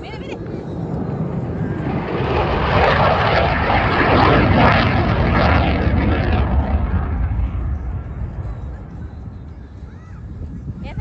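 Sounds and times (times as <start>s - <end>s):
jet plane flying low past: 0.0s - 10.8s.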